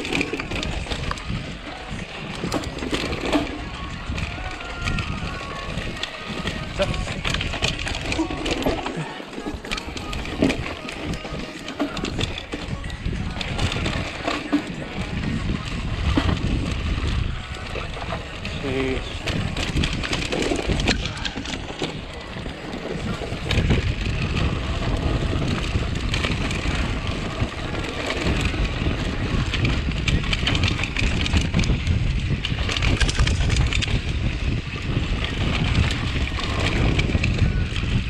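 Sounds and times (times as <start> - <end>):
bike rattling and knocking: 0.0 - 38.0
tyres rolling over dirt and rock: 0.0 - 38.0
wind buffeting microphone: 0.0 - 38.0.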